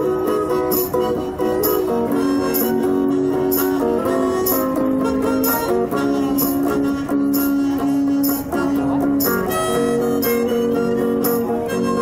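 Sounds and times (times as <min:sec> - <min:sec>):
harmonica long notes: 0:00.0 - 0:12.0
strummed guitar: 0:00.0 - 0:12.0.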